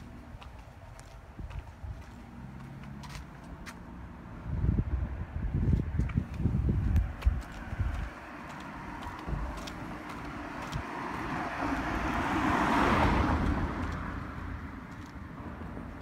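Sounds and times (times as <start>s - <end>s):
car passing: 0.0s - 16.0s.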